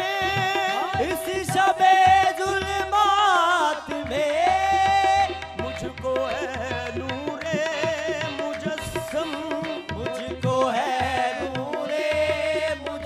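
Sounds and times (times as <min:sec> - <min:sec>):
harmoniums: 0:00.0 - 0:13.0.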